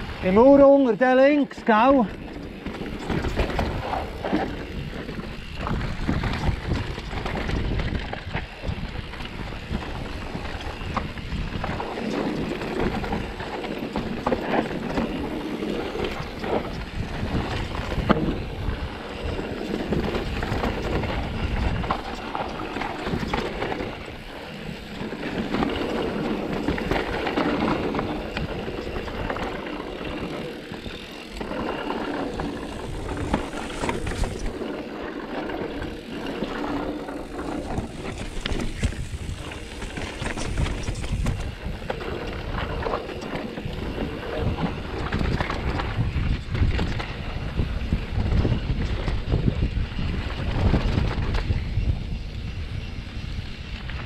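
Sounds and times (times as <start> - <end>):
bike rattling and knocking: 0.0 - 54.0
bike tyres rolling over ground: 0.0 - 54.0
wind buffeting microphone: 0.0 - 54.0.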